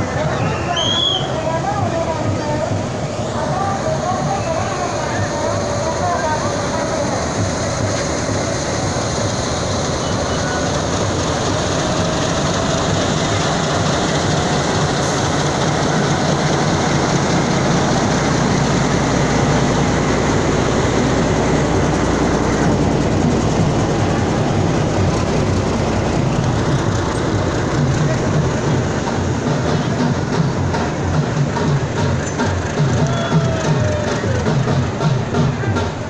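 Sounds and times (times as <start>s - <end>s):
passenger train rolling on rails: 0.0s - 36.0s.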